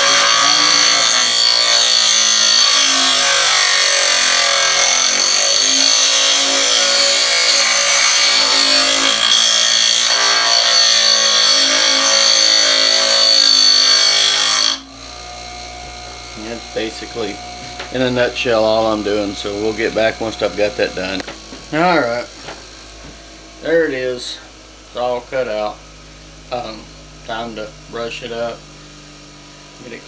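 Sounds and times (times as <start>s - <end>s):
bench grinder grinding steel: 0.0s - 30.0s.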